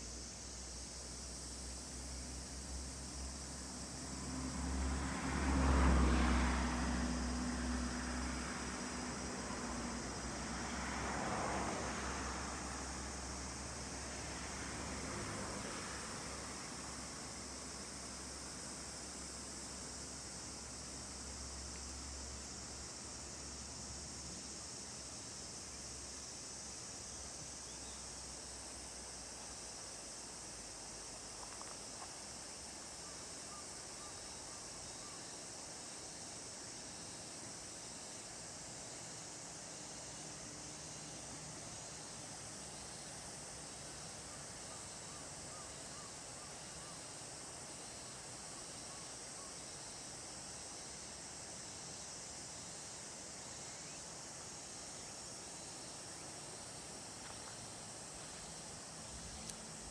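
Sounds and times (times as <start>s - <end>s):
shrill insect chorus: 0.0s - 59.9s.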